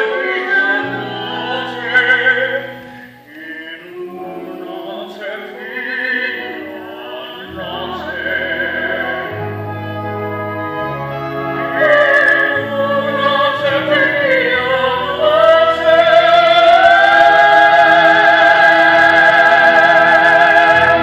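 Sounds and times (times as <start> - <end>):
musical accompaniment: 0.0 - 21.0
operatic singing: 0.0 - 21.0.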